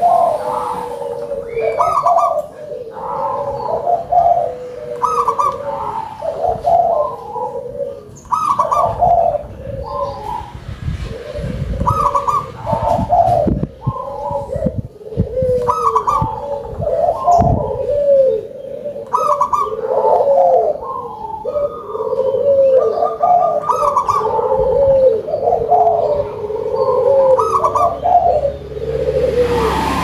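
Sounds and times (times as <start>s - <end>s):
doves cooing: 0.0s - 30.0s.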